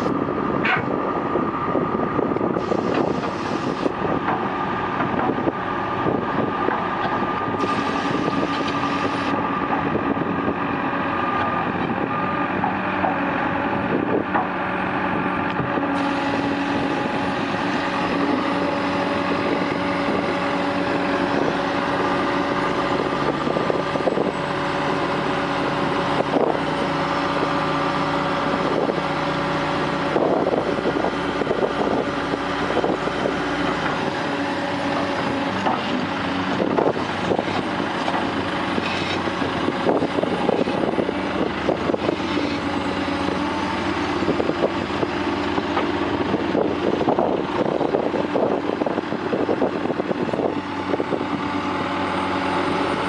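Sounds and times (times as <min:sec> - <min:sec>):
excavator engine and hydraulics: 0:00.0 - 0:53.0.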